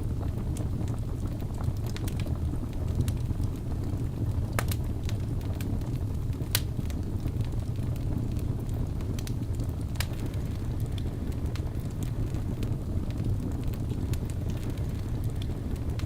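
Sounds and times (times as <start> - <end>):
logs crackling and popping: 0.0 - 16.0
low roar of flames: 0.0 - 16.0.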